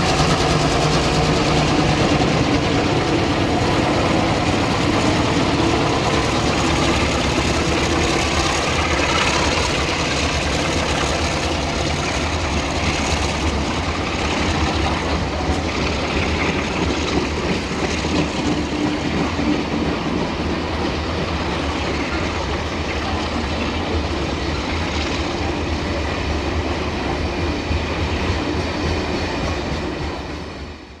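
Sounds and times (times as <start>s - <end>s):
freight train wagons rolling past: 0.0s - 31.0s.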